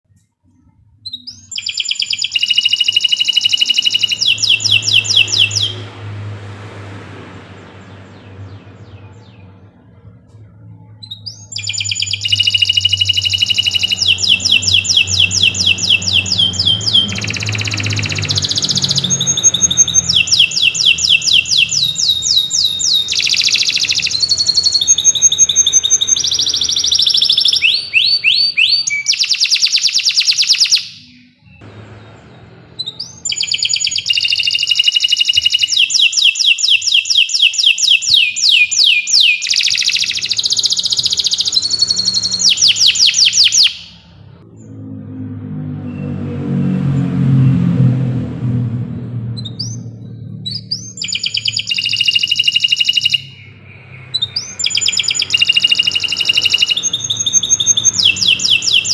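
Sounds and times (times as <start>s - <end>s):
canary singing trills: 0.4s - 48.3s, 49.3s - 58.9s.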